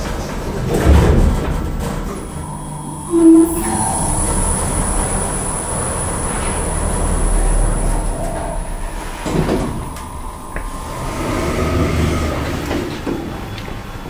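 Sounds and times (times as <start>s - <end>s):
elevator car rumbling: 0.0s - 14.0s
elevator doors sliding open: 0.0s - 14.0s.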